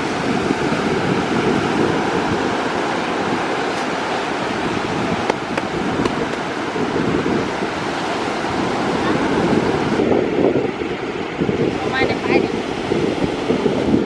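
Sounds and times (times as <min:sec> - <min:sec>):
ocean surf washing onto shore: 0:00.0 - 0:14.0.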